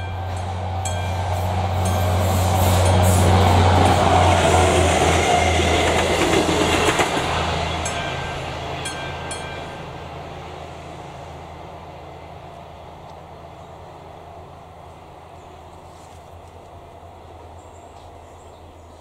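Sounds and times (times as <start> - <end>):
diesel train engine hum: 0.0 - 19.0.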